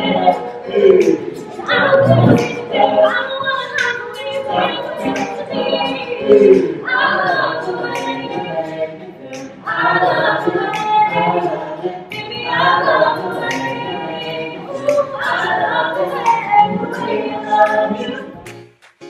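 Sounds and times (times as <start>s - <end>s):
a cappella group singing in harmony: 0.0s - 18.6s.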